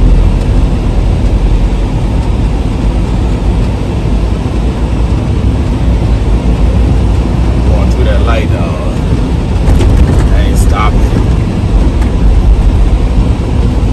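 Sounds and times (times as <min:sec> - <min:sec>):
road noise inside cab: 0:00.0 - 0:13.9
truck engine rumble: 0:00.0 - 0:13.9.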